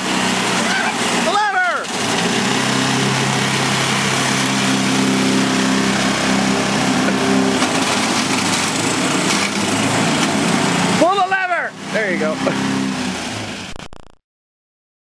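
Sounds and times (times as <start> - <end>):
lawn mower engine running: 0.0 - 13.8.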